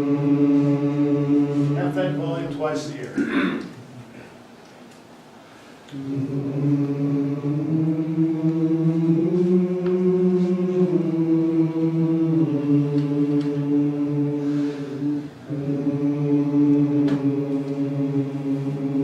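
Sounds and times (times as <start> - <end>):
choir singing sustained notes: 0.0 - 2.7, 5.9 - 19.0.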